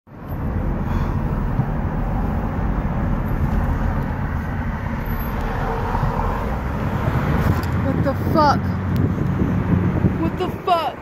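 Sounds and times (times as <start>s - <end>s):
car engine and road noise: 0.1s - 11.0s.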